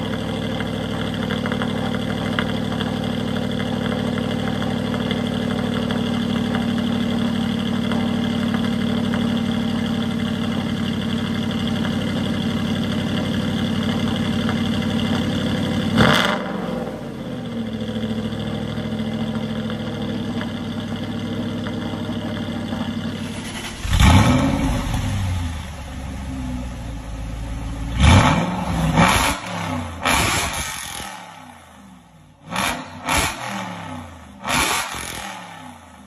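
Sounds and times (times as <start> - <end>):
car engine revving: 0.0 - 26.0, 27.9 - 31.7, 32.4 - 36.0
car engine idling: 0.0 - 36.0.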